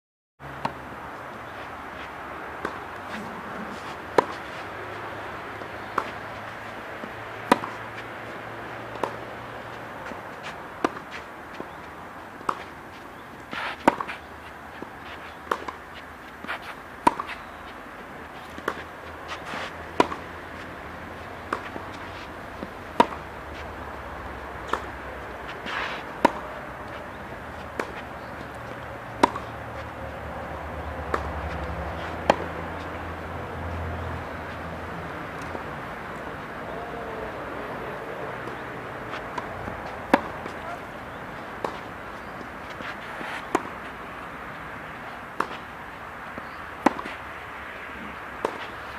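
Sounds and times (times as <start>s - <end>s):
tennis ball bouncing: 0.6s - 48.9s
rackets striking tennis ball: 1.4s - 48.9s.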